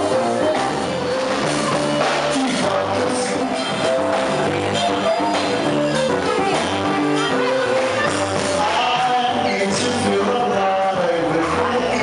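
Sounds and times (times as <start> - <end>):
bass: 0.0 - 12.0
guitar: 0.0 - 12.0
percussion: 0.0 - 12.0
person singing: 0.0 - 12.0.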